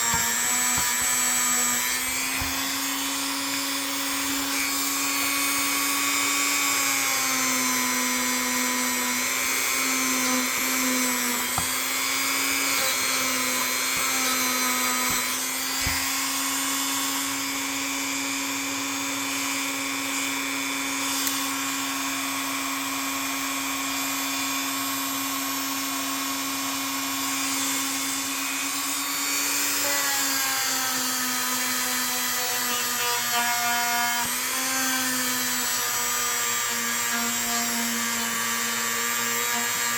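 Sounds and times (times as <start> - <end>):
power tool motor whining: 0.0 - 39.9.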